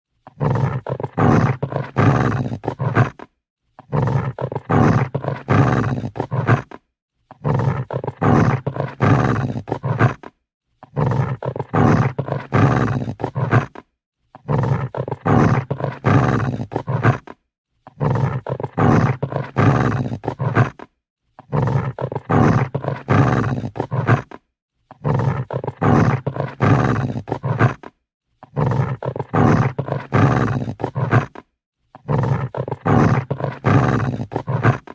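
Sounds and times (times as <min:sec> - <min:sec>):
dog growling: 0:00.3 - 0:34.9.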